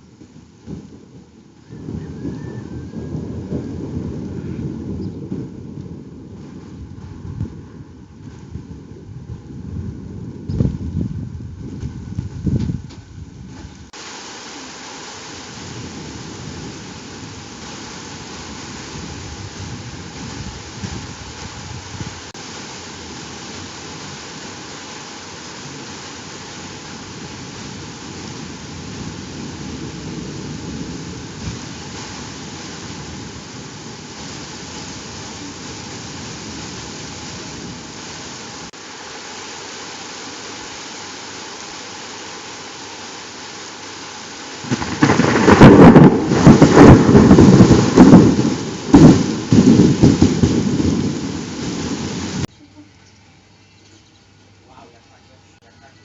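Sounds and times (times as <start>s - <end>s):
heavy rain pouring: 0.0s - 52.5s.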